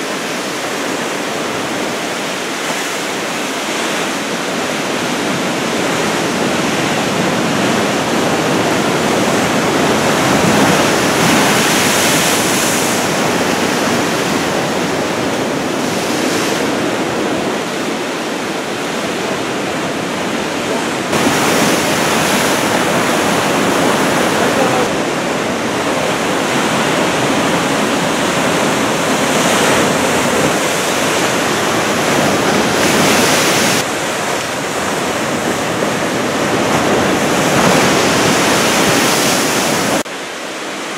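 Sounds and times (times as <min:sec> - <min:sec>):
surf breaking: 0:00.0 - 0:40.1.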